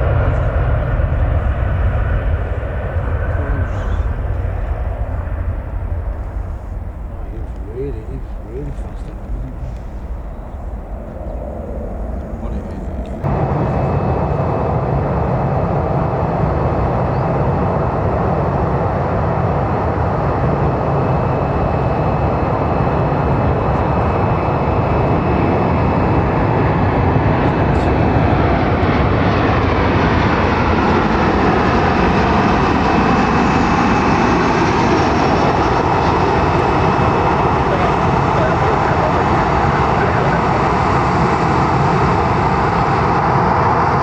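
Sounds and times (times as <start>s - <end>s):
high engine whine: 0.0s - 44.0s
jet engines roaring: 0.0s - 44.0s.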